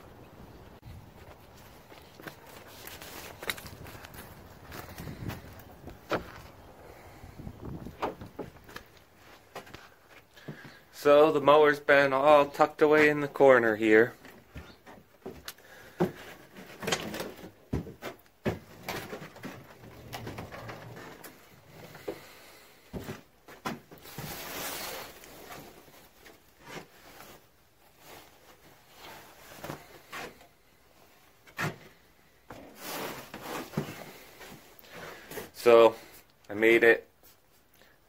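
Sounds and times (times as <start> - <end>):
rustling: 0.5 - 10.9, 14.1 - 36.3.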